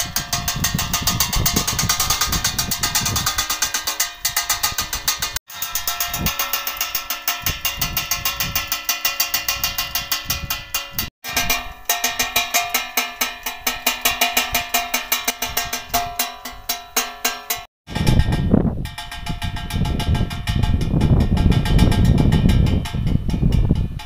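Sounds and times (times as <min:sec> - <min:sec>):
wind buffeting microphone: 0:00.0 - 0:11.6, 0:14.0 - 0:16.2, 0:17.9 - 0:24.0
striker clanking on metal can: 0:00.0 - 0:24.0.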